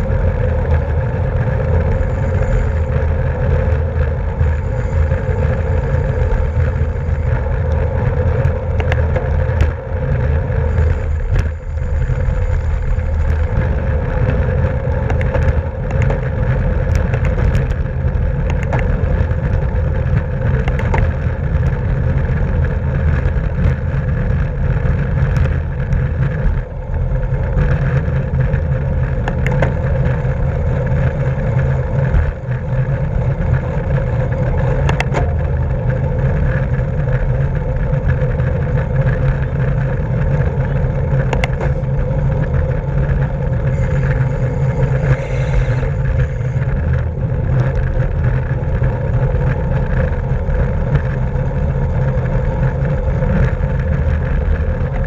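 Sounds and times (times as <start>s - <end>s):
tyre and road noise: 0.0s - 55.0s
wind rushing over microphone: 0.0s - 55.0s.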